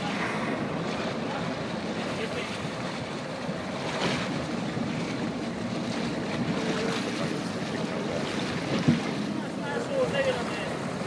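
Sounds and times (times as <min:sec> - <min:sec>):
water washing against boat hull: 0:00.0 - 0:11.0.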